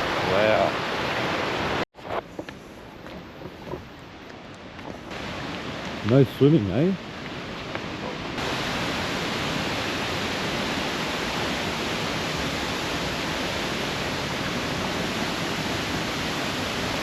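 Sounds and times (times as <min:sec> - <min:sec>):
waterfall rushing: 0:00.0 - 0:01.8, 0:05.1 - 0:17.0.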